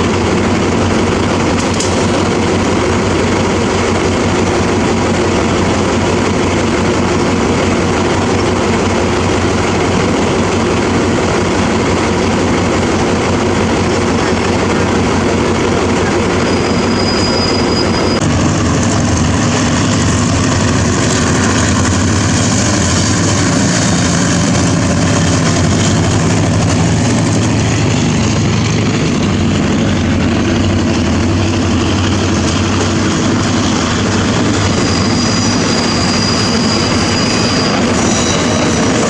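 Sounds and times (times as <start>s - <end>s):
diesel locomotive engine drone: 0.0s - 39.0s.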